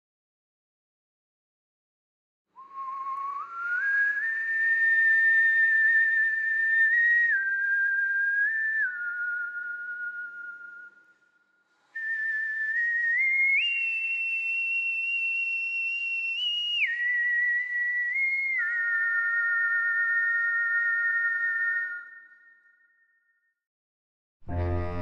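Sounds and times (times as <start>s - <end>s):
person whistling a slow melody: 2.5s - 23.3s.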